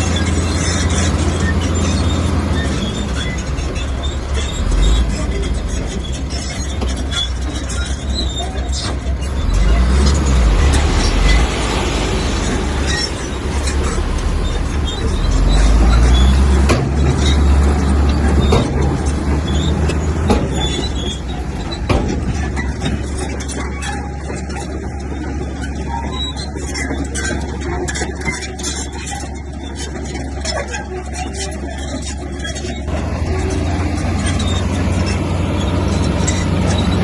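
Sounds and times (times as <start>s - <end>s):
heavy diesel machinery running: 0.0s - 37.0s
machinery squealing: 0.0s - 37.0s.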